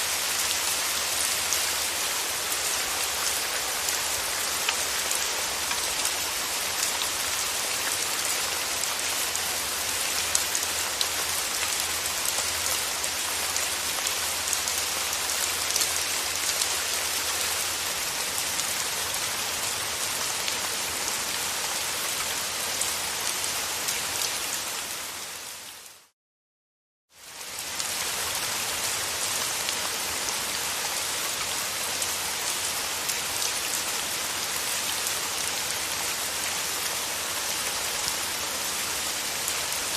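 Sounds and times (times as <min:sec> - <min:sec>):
steady rain hiss: 0:00.0 - 0:26.1, 0:27.2 - 0:39.9.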